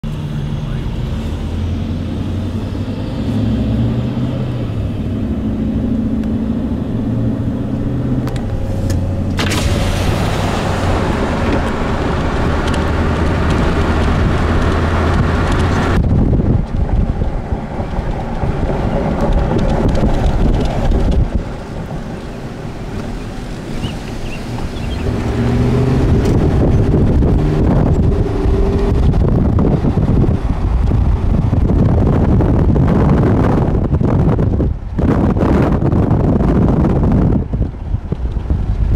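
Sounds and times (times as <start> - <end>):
car engine drone and road noise: 0.0 - 38.9
wind buffeting microphone: 0.4 - 38.9.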